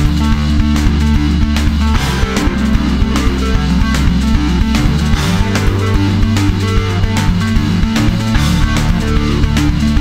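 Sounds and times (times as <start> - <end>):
rock song: 0.0 - 10.0.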